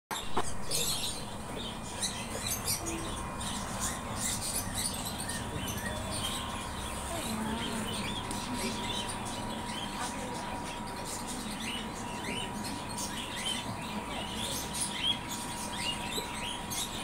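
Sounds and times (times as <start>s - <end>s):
background hum: 0.1s - 17.0s
cage birds chirping: 0.1s - 17.0s.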